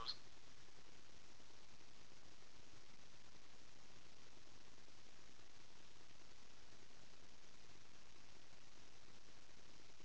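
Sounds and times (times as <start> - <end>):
faint static hiss: 0.0 - 10.0.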